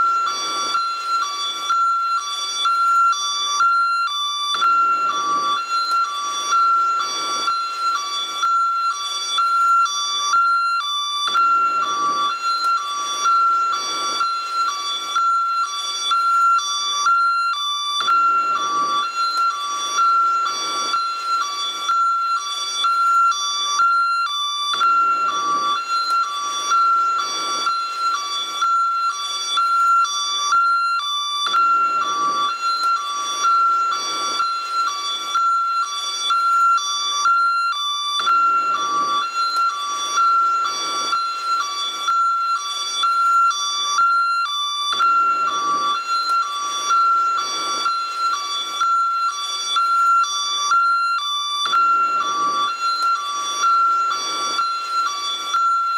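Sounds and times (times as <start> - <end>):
two-tone ambulance siren: 0.0 - 55.9.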